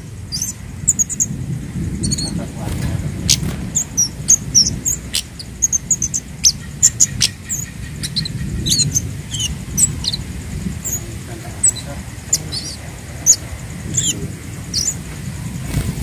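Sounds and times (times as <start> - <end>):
bird chirping high: 0.0 - 15.8
low background rumble: 0.0 - 16.0.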